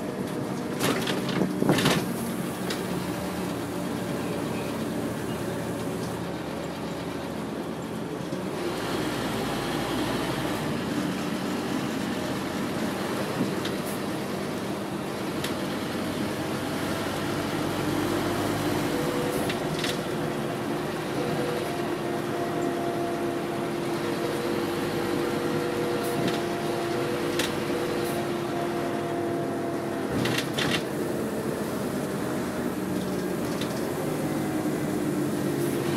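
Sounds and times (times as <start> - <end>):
clicks and rattles of bus body: 0.0 - 8.5, 11.8 - 16.6, 18.9 - 35.9
bus engine hum: 0.0 - 35.9.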